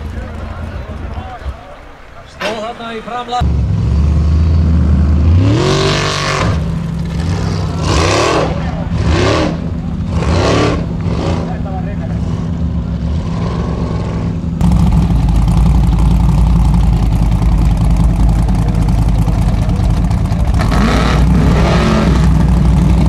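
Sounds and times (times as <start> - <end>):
buggy engine at full throttle: 3.4 - 23.0.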